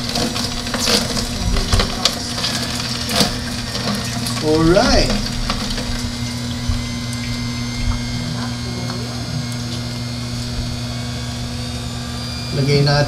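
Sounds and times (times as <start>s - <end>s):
juicer motor humming: 0.0s - 13.0s.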